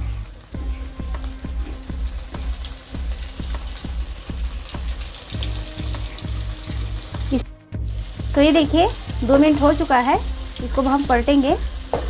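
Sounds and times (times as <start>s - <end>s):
background music with low beat: 0.0s - 12.0s
fish sizzling in hot oil: 0.0s - 12.0s.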